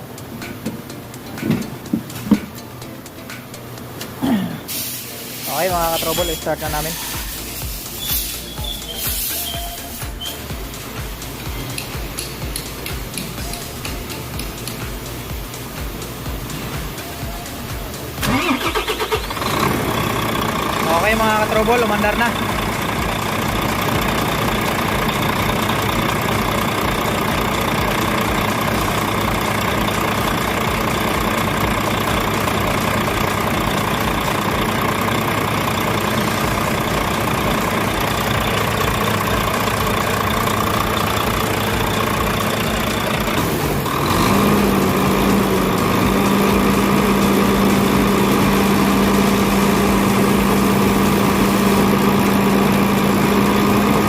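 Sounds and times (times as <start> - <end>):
truck diesel engine idling: 3.5 - 54.0.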